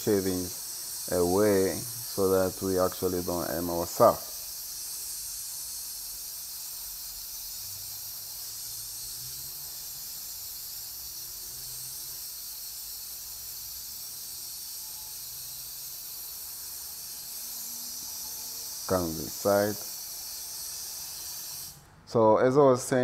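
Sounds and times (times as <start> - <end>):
compressed-air hose hissing: 0.0 - 21.8.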